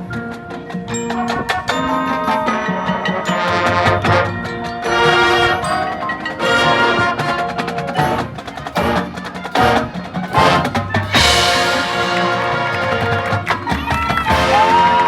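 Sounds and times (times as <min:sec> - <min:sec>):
marching band music: 0:00.0 - 0:15.0
marimba and xylophone: 0:00.0 - 0:15.0.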